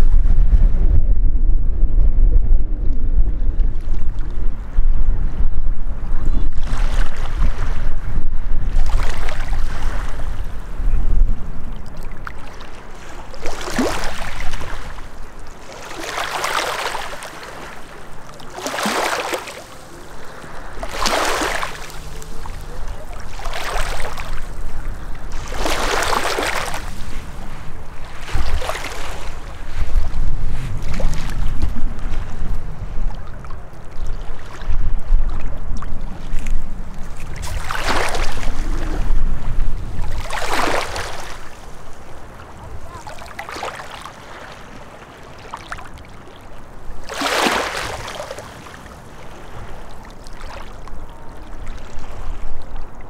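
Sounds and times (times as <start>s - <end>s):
wind rumble on microphone: 0.0s - 53.0s
small waves lapping on shore: 8.7s - 10.8s, 11.7s - 53.0s.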